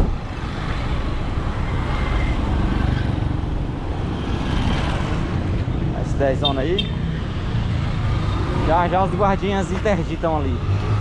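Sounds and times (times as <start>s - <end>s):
pickup engine and road noise: 0.0s - 11.0s.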